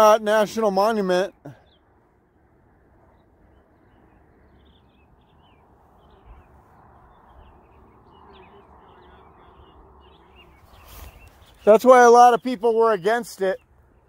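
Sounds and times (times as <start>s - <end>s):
small birds chirping faintly: 0.0s - 14.0s.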